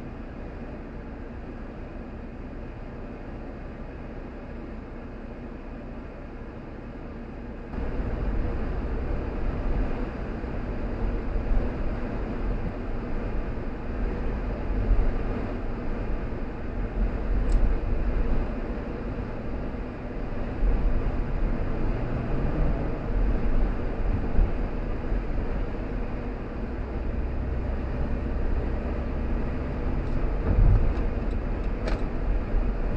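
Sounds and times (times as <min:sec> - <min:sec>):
tyres and engine rumbling: 0:00.0 - 0:32.9.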